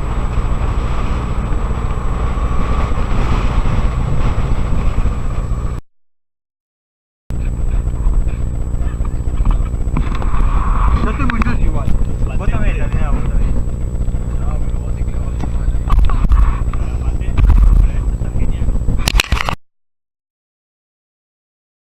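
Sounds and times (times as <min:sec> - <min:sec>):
motorcycle engine rumbling: 0:00.0 - 0:05.8, 0:07.3 - 0:19.2.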